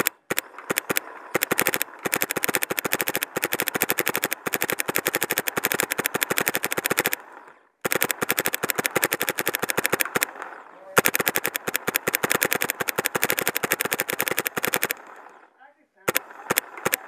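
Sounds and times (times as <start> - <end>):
paintball marker firing: 0.0 - 17.0.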